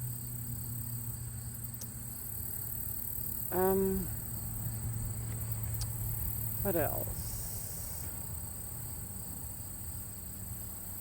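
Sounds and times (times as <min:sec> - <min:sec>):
insects trilling: 0:00.0 - 0:11.0
low steady hum: 0:00.0 - 0:11.0.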